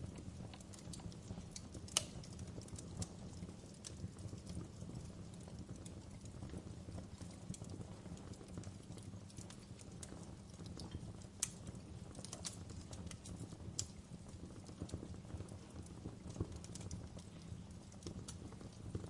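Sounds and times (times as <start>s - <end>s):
fire rumbling: 0.0s - 19.0s
fire snapping and popping: 0.0s - 19.0s.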